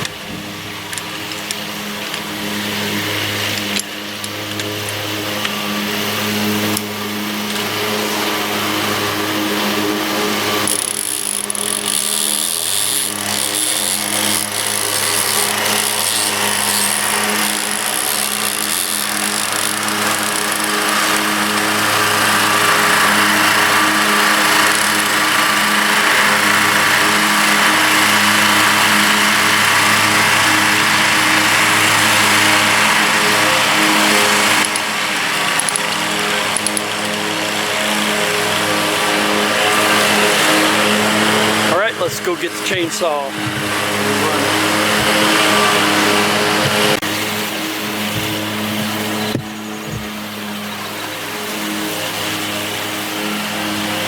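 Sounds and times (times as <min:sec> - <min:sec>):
vehicle engine running: 0:02.8 - 0:54.0.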